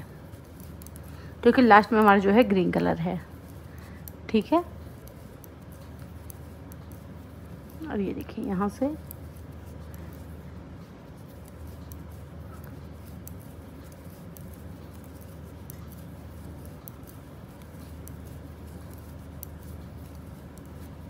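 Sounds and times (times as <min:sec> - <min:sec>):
knitting needles clicking: 0:00.0 - 0:21.0
steady low hum: 0:00.0 - 0:21.0.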